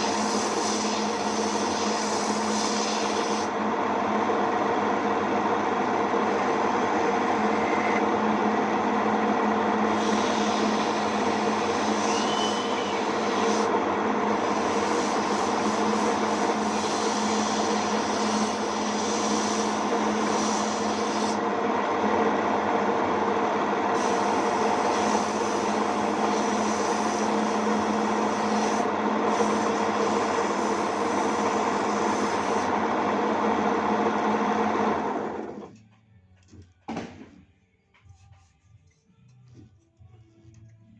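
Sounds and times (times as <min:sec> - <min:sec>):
lathe motor humming: 0:00.0 - 0:35.7.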